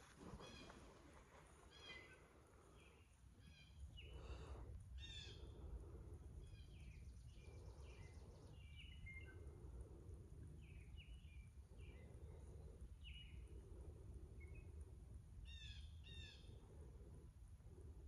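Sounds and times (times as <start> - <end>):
birds chirping faintly: 0.0 - 18.0
low outdoor rumble: 0.0 - 18.0.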